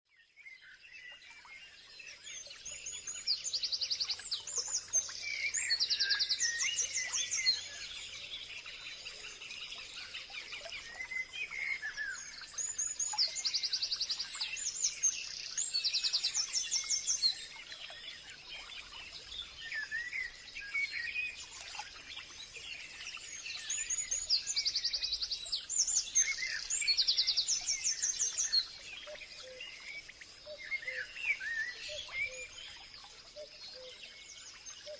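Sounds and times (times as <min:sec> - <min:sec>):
birds singing and chirping: 0:00.2 - 0:34.9.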